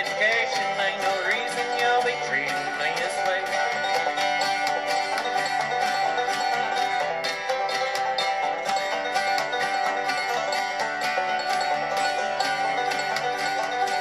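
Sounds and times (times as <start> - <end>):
banjo picking: 0.0 - 14.0.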